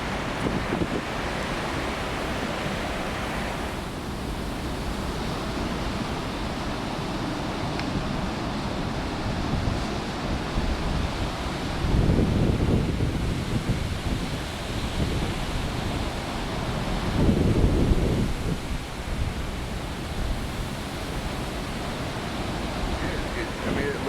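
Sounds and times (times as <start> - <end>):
surf breaking in a roar: 0.0 - 24.0
wind buffeting microphone: 0.0 - 24.0.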